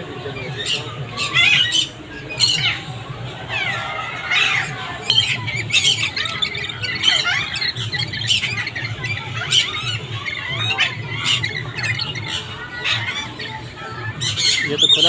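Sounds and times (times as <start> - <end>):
parrots squawking: 0.2 - 15.0.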